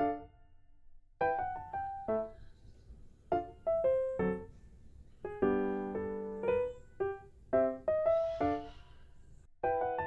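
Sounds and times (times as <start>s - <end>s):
piano playing light melody: 0.0s - 0.4s, 1.2s - 9.0s, 9.6s - 10.0s.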